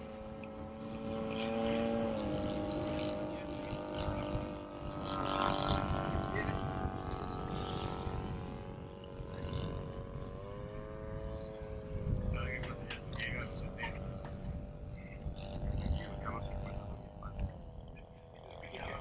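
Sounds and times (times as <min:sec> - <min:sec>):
model airplane propeller droning: 0:00.0 - 0:19.0.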